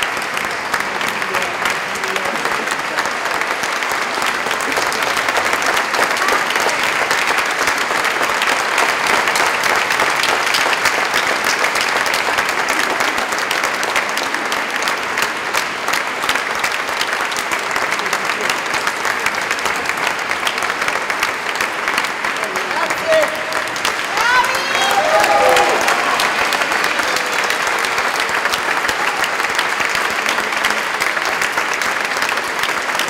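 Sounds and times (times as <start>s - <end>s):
crowd applause: 0.0s - 33.0s.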